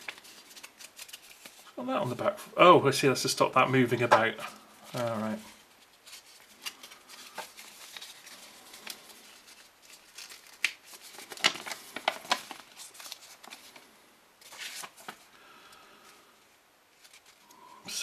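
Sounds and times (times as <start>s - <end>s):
paper leaflet crackling and rustling: 0.0s - 2.3s, 3.6s - 15.4s, 16.9s - 18.0s.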